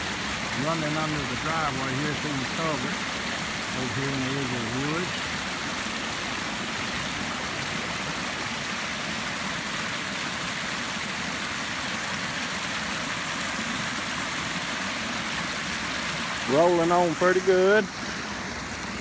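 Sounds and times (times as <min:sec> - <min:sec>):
water rushing through culvert: 0:00.0 - 0:19.0.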